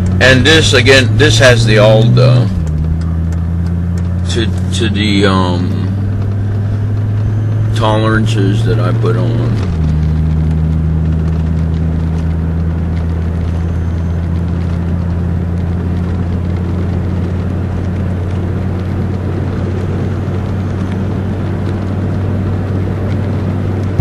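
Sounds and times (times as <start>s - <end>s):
diesel engine running: 0.0s - 24.0s
road noise: 0.0s - 24.0s.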